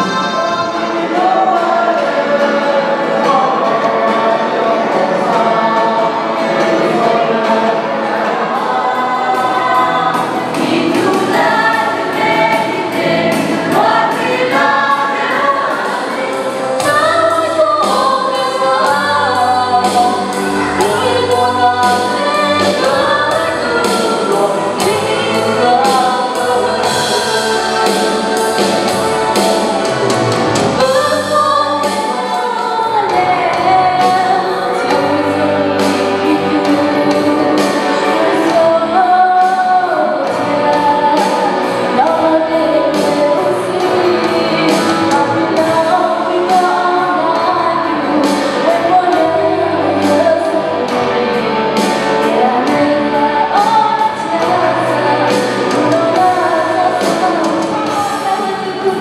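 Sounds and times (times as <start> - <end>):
band playing gospel song: 0.0 - 59.0
woman singing lead: 0.0 - 59.0.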